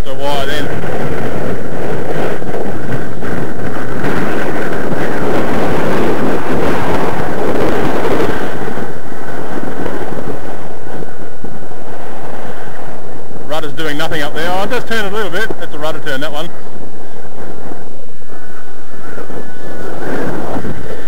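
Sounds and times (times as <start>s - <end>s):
model plane engine drone: 0.0s - 21.0s
wind buffeting microphone: 0.0s - 21.0s.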